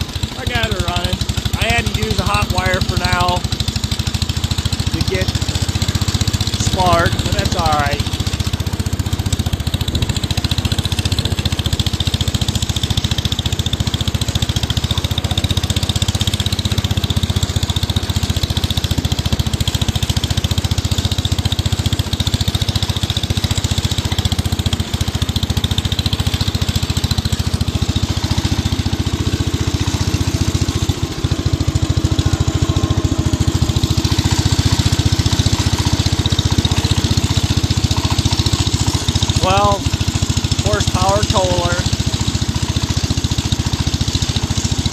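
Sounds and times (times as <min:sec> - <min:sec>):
garden tractor engine running: 0:00.0 - 0:44.9.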